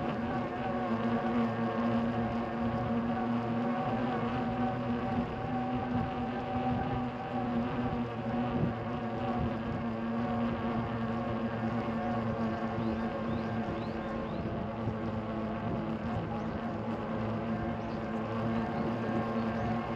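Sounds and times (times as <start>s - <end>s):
light background rush: 0.0s - 19.9s
steady low electrical hum: 0.0s - 19.9s.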